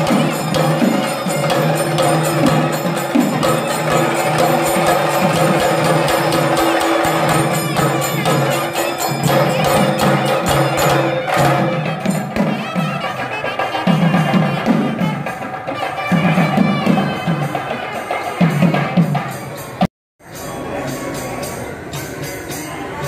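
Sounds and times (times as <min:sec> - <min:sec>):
drum strokes: 0:00.0 - 0:22.8
held melodic tones: 0:00.0 - 0:23.0.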